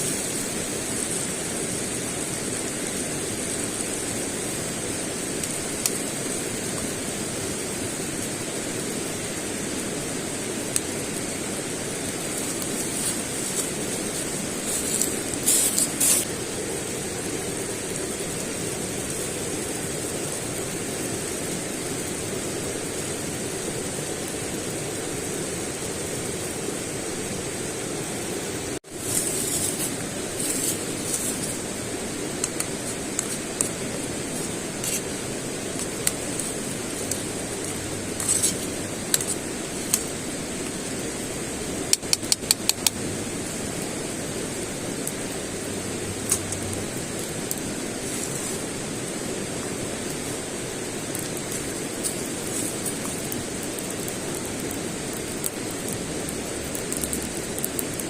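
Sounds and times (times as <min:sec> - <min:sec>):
crackles and pops: 0:00.0 - 0:58.0
steady hissing noise: 0:00.0 - 0:58.0.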